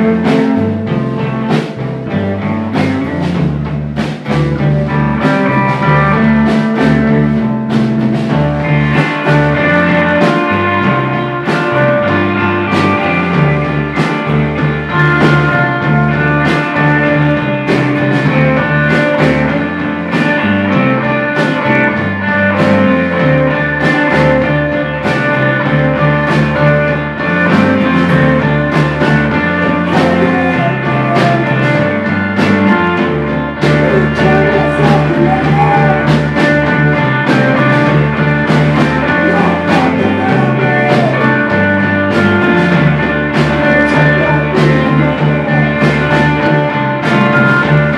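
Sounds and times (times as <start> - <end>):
bass guitar: 0.0 - 47.9
distorted electric guitars: 0.0 - 47.9
drum kit beat: 0.0 - 47.9.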